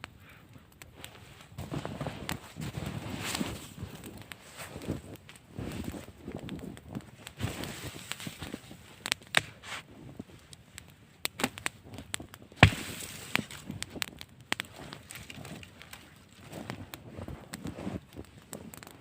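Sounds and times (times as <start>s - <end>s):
sharp snaps and cracks: 0.0s - 19.0s.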